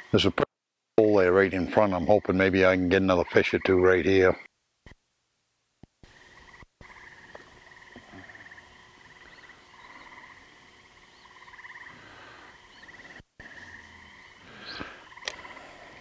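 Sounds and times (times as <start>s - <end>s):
frogs trilling: 1.2s - 4.5s, 6.0s - 16.0s.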